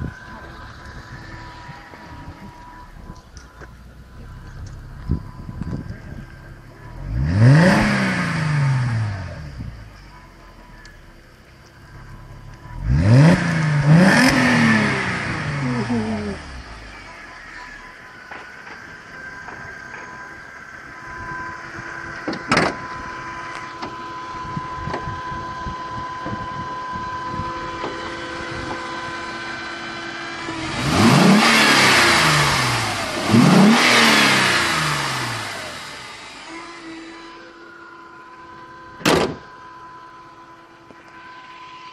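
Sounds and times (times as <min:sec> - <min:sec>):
car engine idling with whine: 0:00.0 - 0:41.9.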